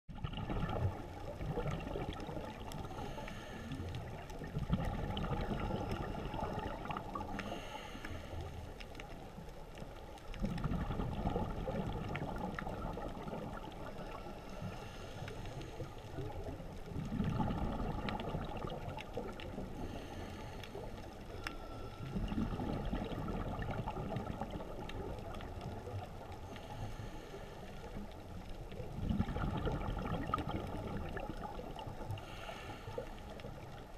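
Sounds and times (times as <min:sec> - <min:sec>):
underwater rushing water: 0:00.1 - 0:33.9.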